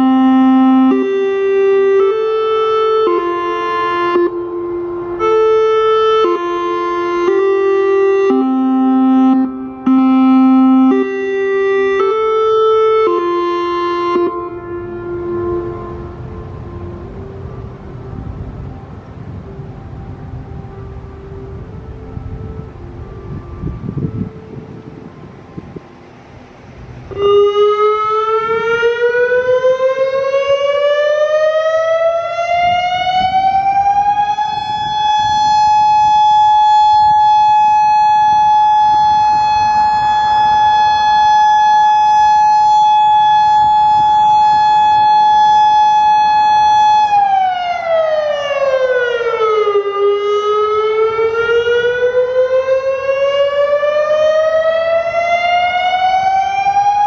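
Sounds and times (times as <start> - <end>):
electronic warning siren: 0.0 - 57.0.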